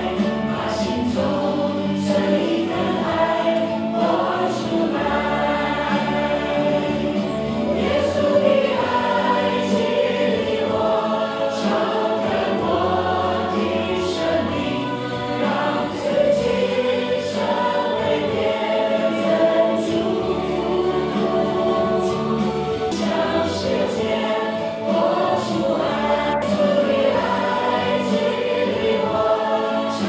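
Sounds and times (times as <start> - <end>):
women singing together: 0.0 - 30.0.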